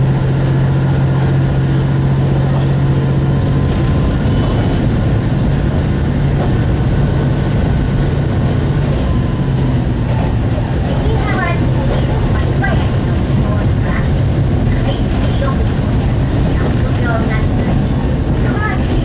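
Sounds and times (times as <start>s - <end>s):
railcar diesel engine drone: 0.0s - 19.0s
wheels rumbling on track: 0.0s - 19.0s.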